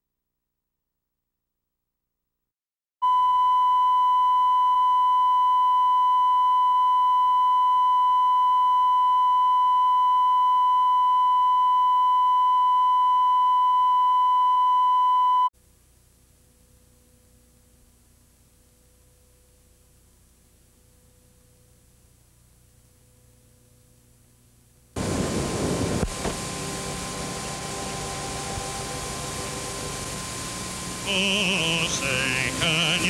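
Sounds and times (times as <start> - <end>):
steady sine test tone: 3.0 - 33.0.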